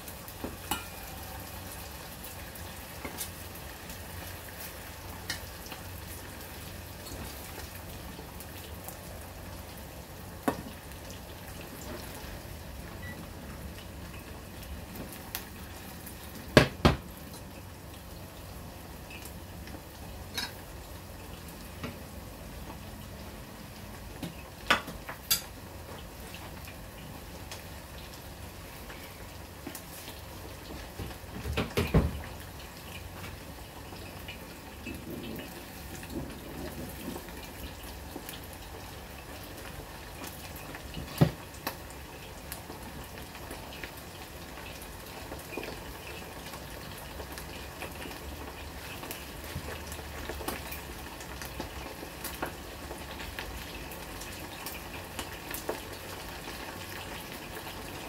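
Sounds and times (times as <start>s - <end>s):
ribs bubbling in a saucepan: 0.0s - 58.0s.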